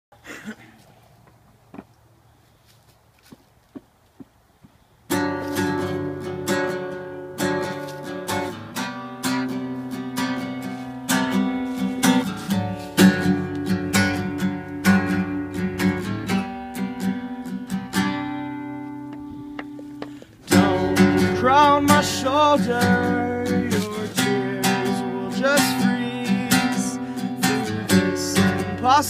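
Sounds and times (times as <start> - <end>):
acoustic guitar strumming: 5.1 - 29.0.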